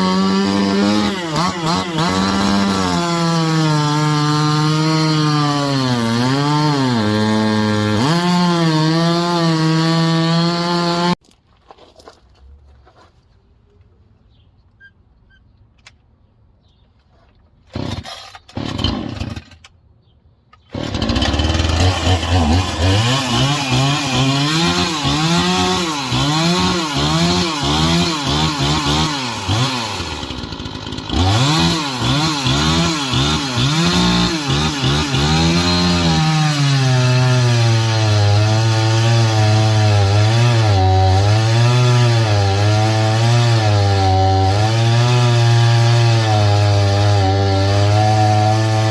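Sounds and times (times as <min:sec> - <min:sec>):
chainsaw starting and revving: 0:00.0 - 0:11.2, 0:17.7 - 0:19.6, 0:20.6 - 0:48.9.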